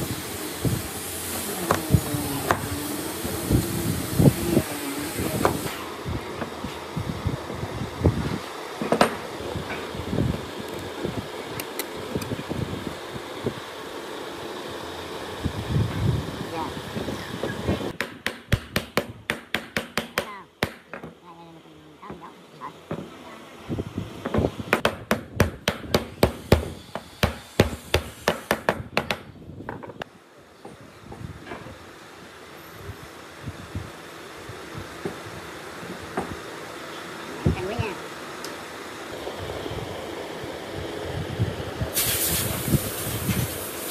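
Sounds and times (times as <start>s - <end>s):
steady background noise: 0.0s - 43.9s.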